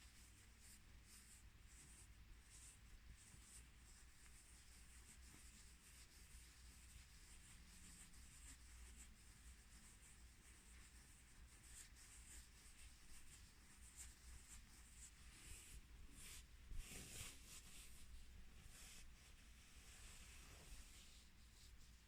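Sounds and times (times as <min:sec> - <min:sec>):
hands rubbing and scratching: 0:00.1 - 0:22.0.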